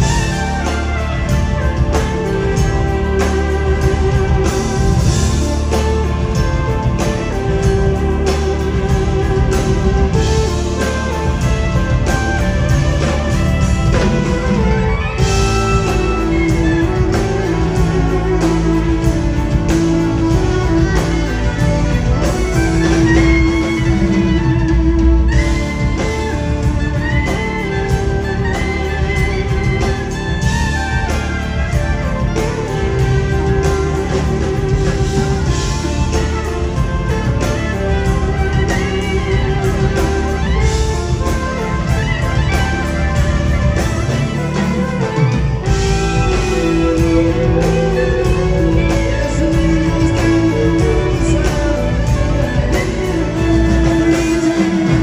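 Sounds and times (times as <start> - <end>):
bass guitar: 0.0 - 55.0
drums: 0.0 - 55.0
electric guitar lead: 0.0 - 55.0.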